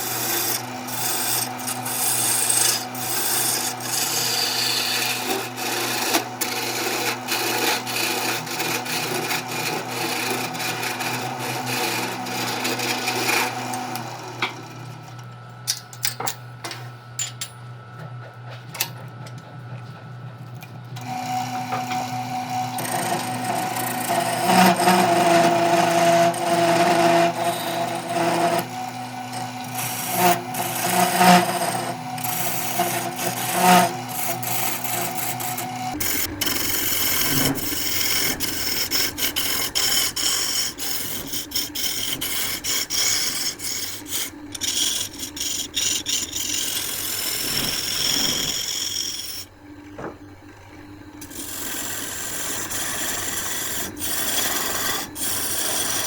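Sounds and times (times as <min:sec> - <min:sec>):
tool scraping spinning wood: 0:00.0 - 0:15.2, 0:18.1 - 0:56.0
wood lathe motor hum: 0:00.0 - 0:15.7, 0:18.4 - 0:56.0.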